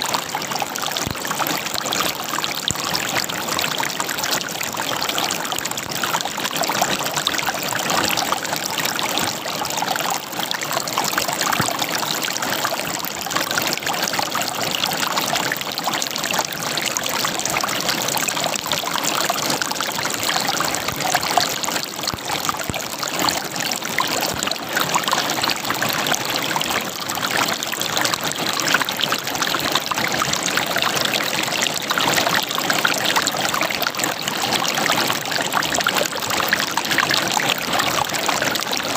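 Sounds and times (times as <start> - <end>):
water running over rocks: 0.0 - 38.9.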